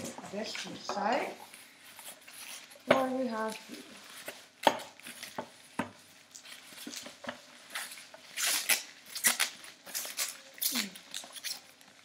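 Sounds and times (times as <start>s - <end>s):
plastic packaging crinkling: 0.4s - 12.0s.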